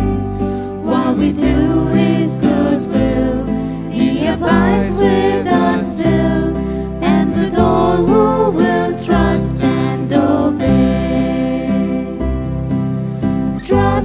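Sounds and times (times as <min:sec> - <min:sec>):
hymn singing with accompaniment: 0:00.0 - 0:12.4, 0:13.6 - 0:14.0.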